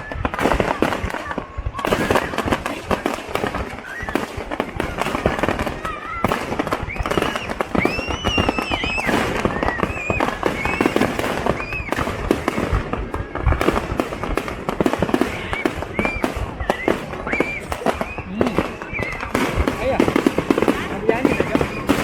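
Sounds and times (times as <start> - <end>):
fireworks bangs and crackling: 0.0 - 22.0
fireworks squealing: 0.0 - 22.0.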